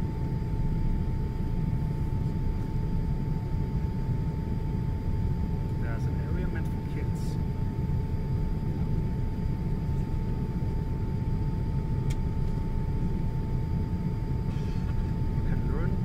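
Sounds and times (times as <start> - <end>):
aircraft cabin rumble: 0.0 - 16.0
faint constant hum tone: 0.0 - 16.0.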